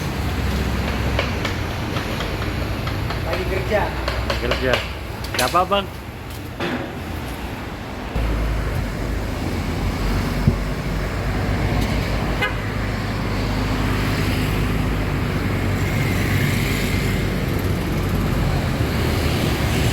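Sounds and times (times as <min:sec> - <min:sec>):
road and traffic noise: 0:00.0 - 0:19.9.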